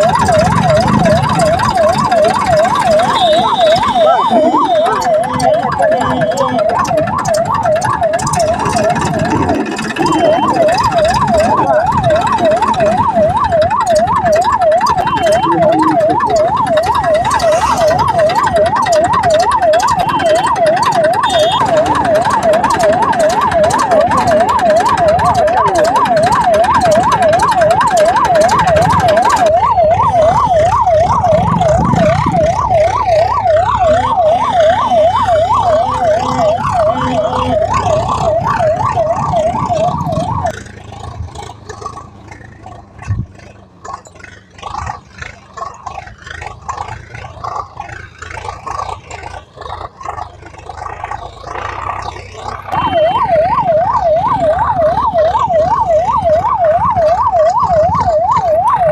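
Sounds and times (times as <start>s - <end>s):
electronic siren yelping: 0.0s - 58.9s.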